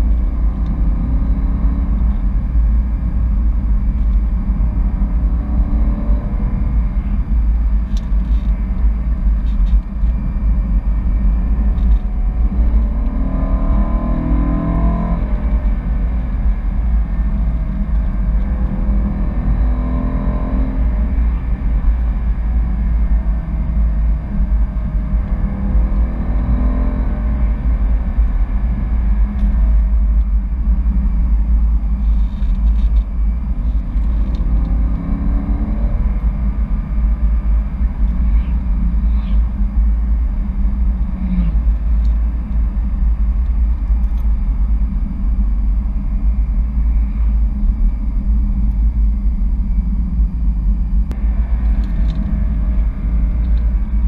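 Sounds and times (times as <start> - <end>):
car engine accelerating: 0.0 - 54.0
road noise inside car: 0.0 - 54.0.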